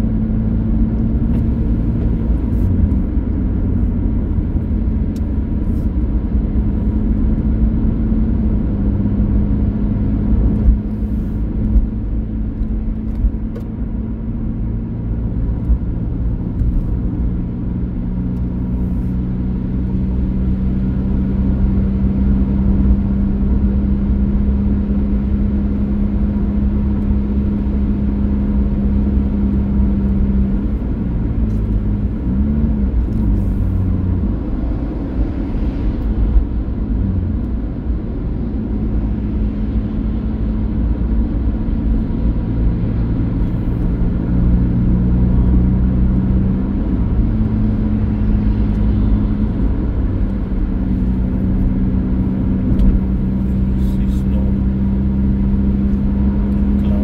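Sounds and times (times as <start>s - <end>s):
heavy low rumble: 0.0s - 57.0s
vehicle engine running: 0.0s - 57.0s.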